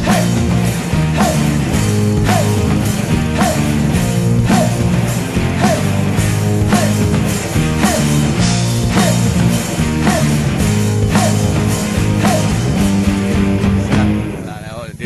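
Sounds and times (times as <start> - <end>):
instrumental music with beat: 0.0 - 14.4.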